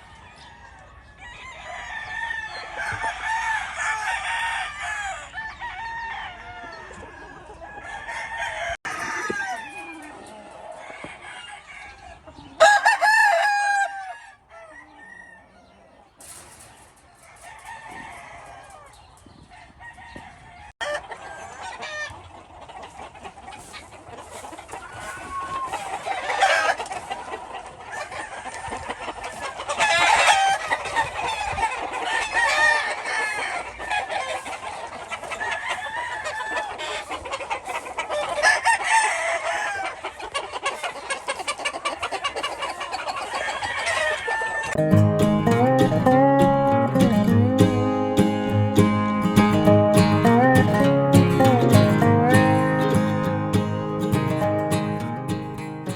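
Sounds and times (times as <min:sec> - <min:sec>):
roosters crowing: 0:00.0 - 0:22.4, 0:23.6 - 0:55.9
birds clucking: 0:00.0 - 0:55.9.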